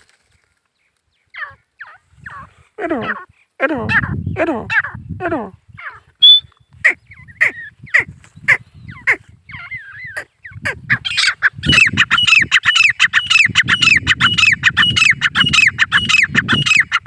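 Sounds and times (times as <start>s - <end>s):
francolin calling: 1.4s - 17.0s.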